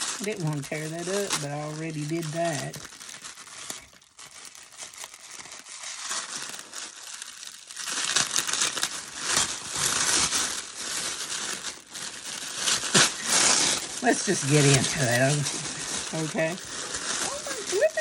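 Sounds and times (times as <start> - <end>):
paper crinkling and tearing: 0.0 - 18.0.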